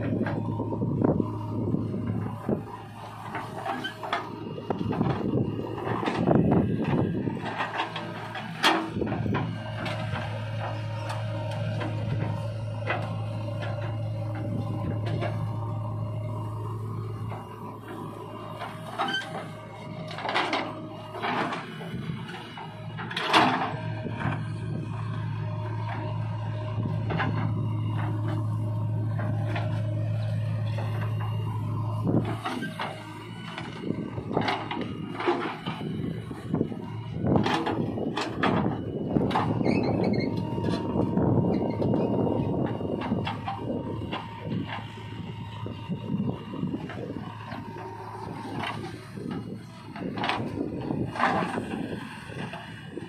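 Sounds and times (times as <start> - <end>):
diesel engine working under load: 0.0 - 53.0.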